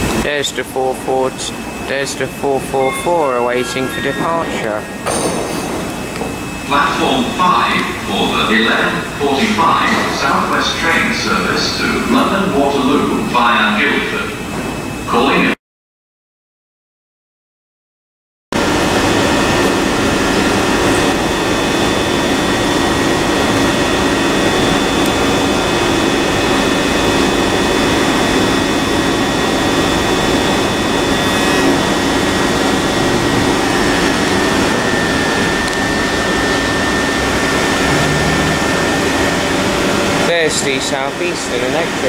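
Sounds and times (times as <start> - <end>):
high held tones: 0.0 - 12.7, 19.1 - 42.0
train equipment hum: 0.0 - 13.4, 18.6 - 42.0.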